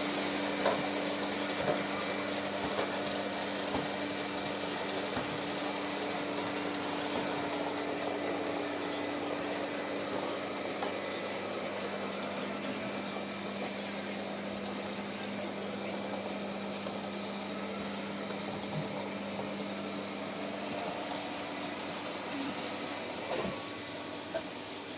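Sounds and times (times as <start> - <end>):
robot vacuum cleaner on carpet: 0.0 - 24.9.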